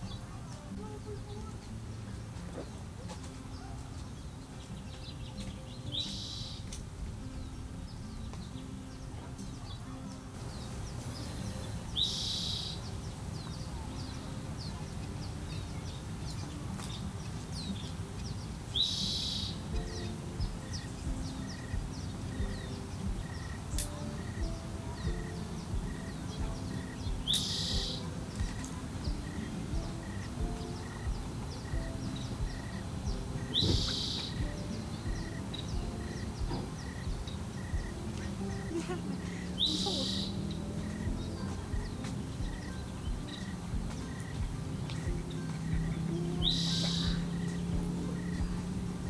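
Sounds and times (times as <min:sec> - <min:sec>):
outdoor background: 0:00.0 - 0:49.0
soft music with even pulse: 0:00.0 - 0:49.0
bird calling: 0:00.9 - 0:06.8, 0:10.4 - 0:49.0.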